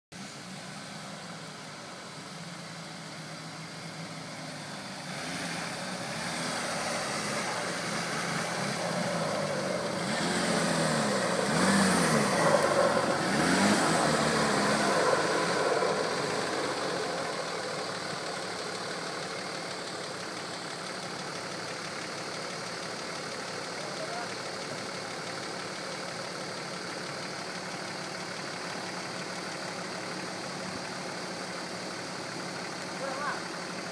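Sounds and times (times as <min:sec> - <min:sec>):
off-road vehicle engine under load: 0:00.1 - 0:33.9.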